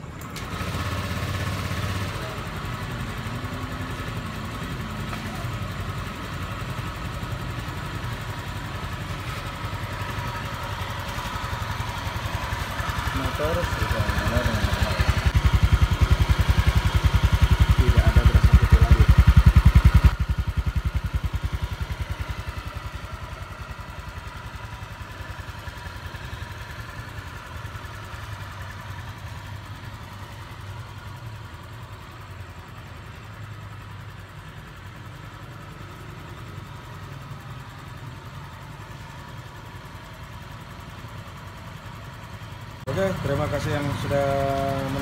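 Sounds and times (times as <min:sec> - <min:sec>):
scooter engine idling: 0:00.0 - 0:45.0.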